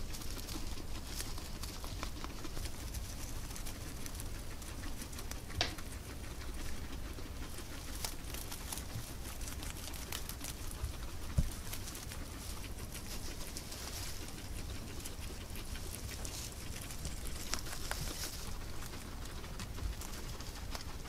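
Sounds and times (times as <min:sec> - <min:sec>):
guinea pigs crunching hay: 0:00.0 - 0:21.0.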